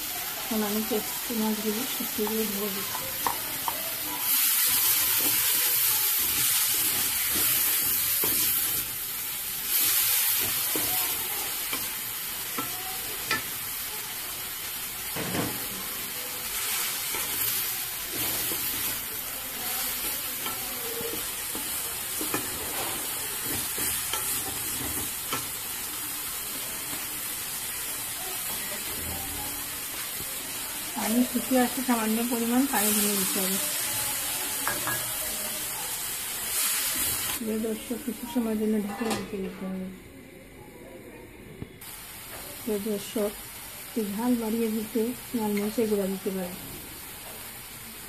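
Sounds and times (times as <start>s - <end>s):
fish sizzling in oil: 0.0s - 39.2s, 41.8s - 48.0s.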